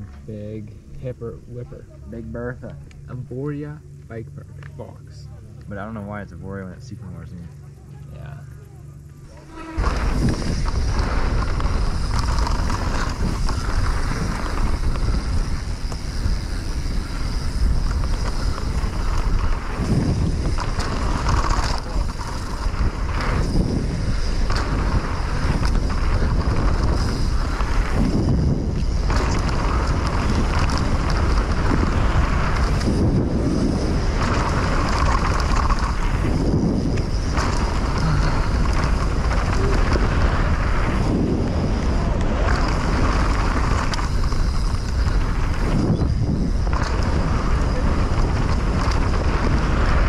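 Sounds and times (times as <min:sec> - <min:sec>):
wind rushing over microphone: 0:09.2 - 0:50.0.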